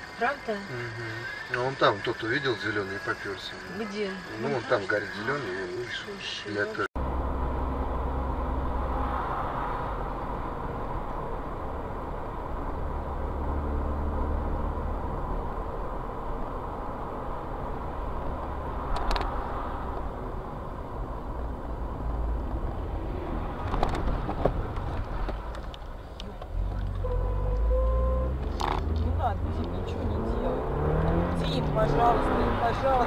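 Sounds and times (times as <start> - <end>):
car engine and tyre rumble: 0.0 - 33.0.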